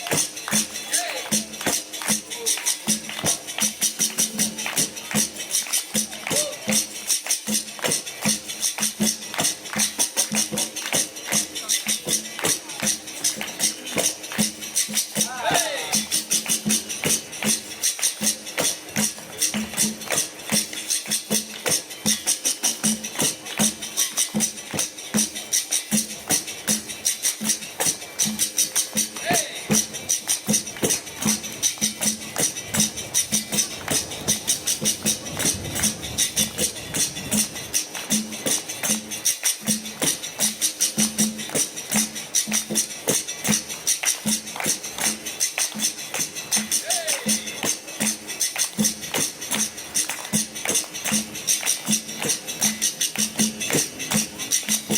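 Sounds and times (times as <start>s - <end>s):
pandeiro jingles and strokes: 0.0s - 54.9s.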